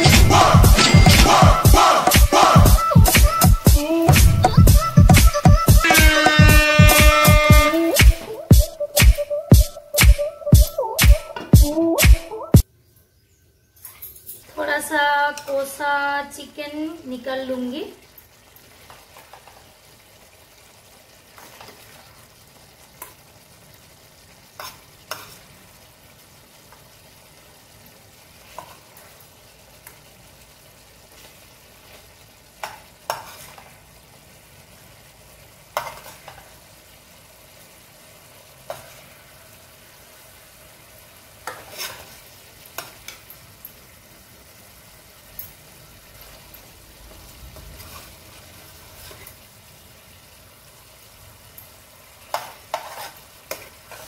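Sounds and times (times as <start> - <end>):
food sizzling: 0.0 - 12.7, 14.3 - 54.0.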